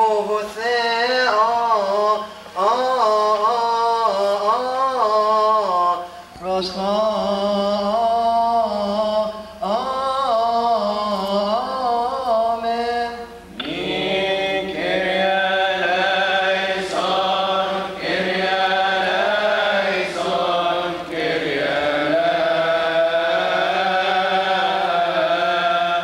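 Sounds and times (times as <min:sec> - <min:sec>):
solo voice chanting: 0:00.0 - 0:26.0.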